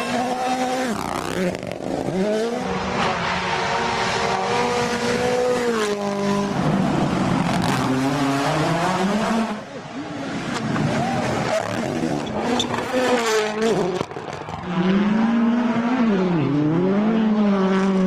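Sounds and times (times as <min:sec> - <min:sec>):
rally car engine at full throttle: 0:00.0 - 0:18.0
rushing tyre noise: 0:00.0 - 0:18.0.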